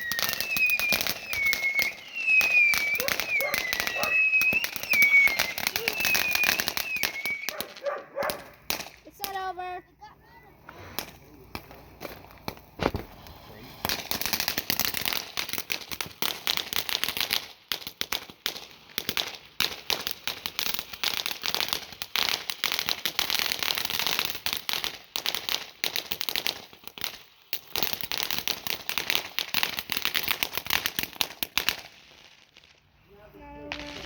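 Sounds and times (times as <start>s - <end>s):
firecrackers popping: 0.0s - 34.0s.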